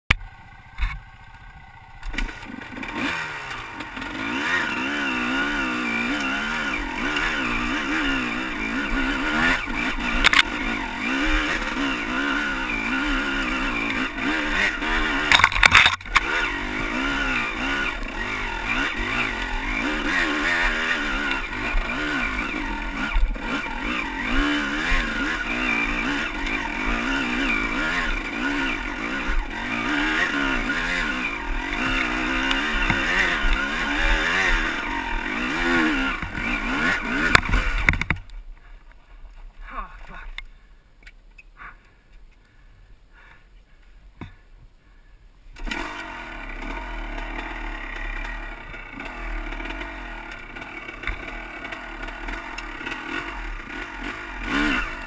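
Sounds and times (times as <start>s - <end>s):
dirt bike engine revving: 0.2s - 38.2s, 45.6s - 55.0s.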